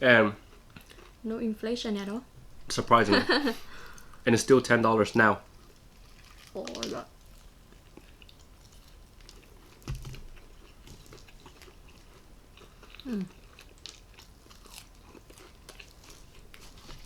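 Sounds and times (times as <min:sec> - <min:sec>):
chewing and crunching food: 0:00.2 - 0:01.9, 0:02.6 - 0:17.0.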